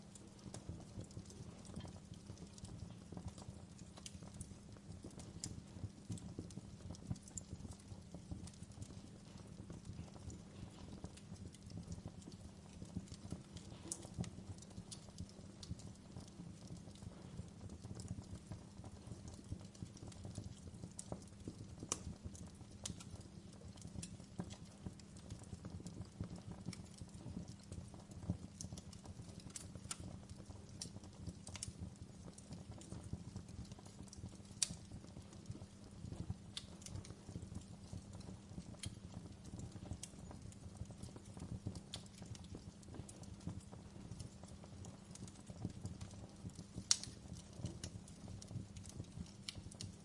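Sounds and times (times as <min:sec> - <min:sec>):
low rumble of burning: 0:00.0 - 0:50.0
wood fire crackling and popping: 0:00.0 - 0:50.0.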